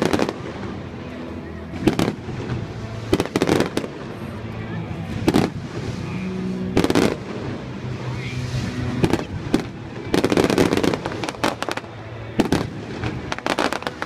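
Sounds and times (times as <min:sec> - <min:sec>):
crackling firework cracks: 0:00.0 - 0:00.9, 0:01.8 - 0:04.2, 0:05.2 - 0:14.0.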